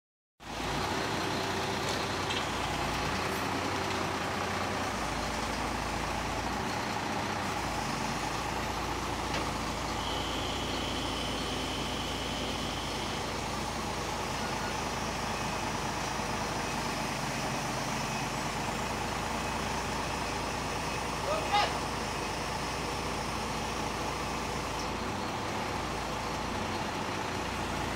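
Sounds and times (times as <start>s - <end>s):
truck engine running: 0.4s - 27.9s.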